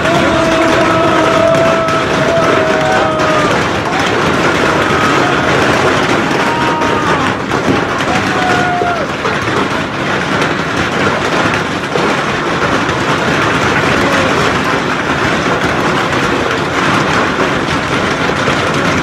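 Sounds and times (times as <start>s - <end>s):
hail and heavy rain on concrete: 0.0s - 19.0s.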